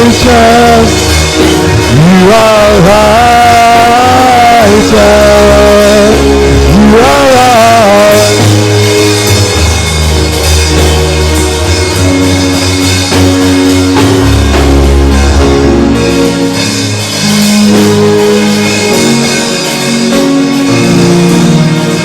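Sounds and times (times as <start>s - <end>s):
band playing instrumental music: 0.0s - 22.0s.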